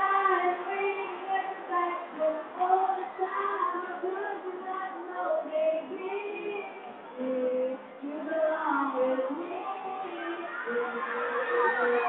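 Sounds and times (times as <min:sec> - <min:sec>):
girl singing into a microphone: 0:00.0 - 0:12.0.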